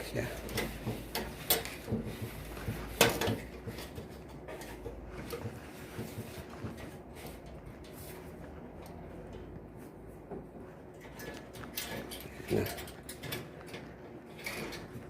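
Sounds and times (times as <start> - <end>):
sliding door clicking and scraping: 0.4 - 9.6, 10.8 - 15.0.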